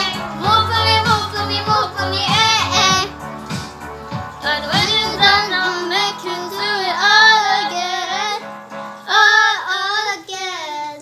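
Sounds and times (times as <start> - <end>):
girl singing: 0.0 - 3.2, 4.4 - 8.5, 9.1 - 11.0.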